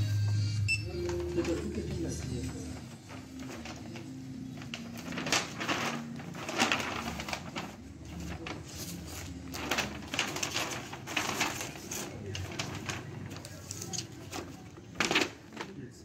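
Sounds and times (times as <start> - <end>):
paper bag rustling: 0.9 - 16.0
plastic package crinkling: 1.0 - 15.9.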